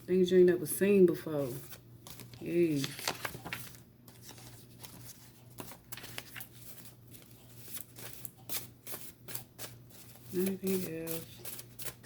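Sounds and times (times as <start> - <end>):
cards being shuffled: 1.5 - 12.0.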